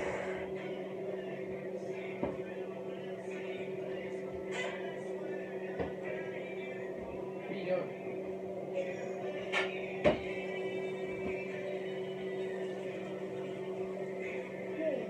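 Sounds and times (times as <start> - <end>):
humming drone: 0.0 - 15.0.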